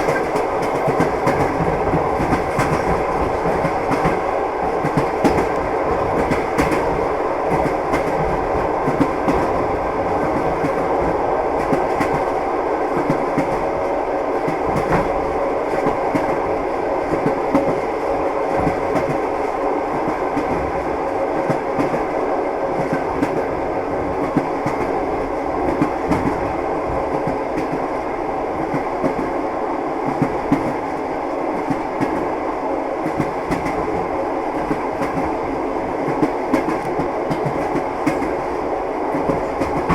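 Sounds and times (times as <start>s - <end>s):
train wheels clattering on rails: 0.0s - 13.8s, 14.4s - 17.9s, 18.5s - 22.1s, 22.7s - 25.0s, 25.6s - 27.9s, 30.0s - 32.3s, 33.0s - 39.9s.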